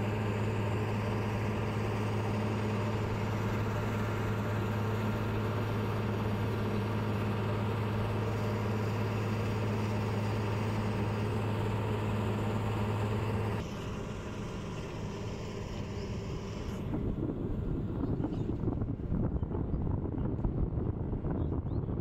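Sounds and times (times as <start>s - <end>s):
boat engine humming: 0.0s - 19.2s.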